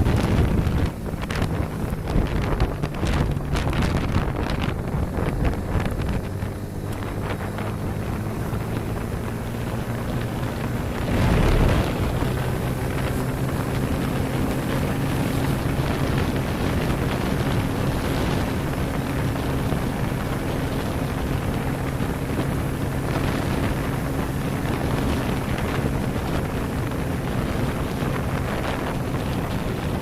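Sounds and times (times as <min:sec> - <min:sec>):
motorcycle engine running: 0:00.0 - 0:30.0
wind buffeting on microphone: 0:00.0 - 0:30.0.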